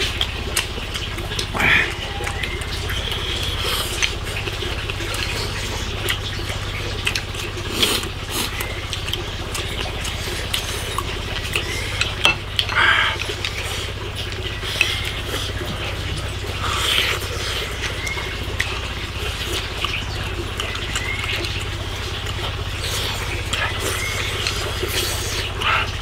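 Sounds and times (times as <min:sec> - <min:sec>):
eating sounds: 0:00.0 - 0:26.0
steady low hum: 0:00.0 - 0:26.0.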